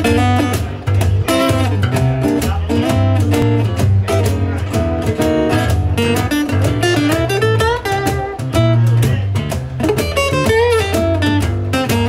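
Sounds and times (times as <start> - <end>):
bass line: 0.0 - 12.0
light percussion: 0.0 - 12.0
strummed acoustic guitar: 0.0 - 12.0.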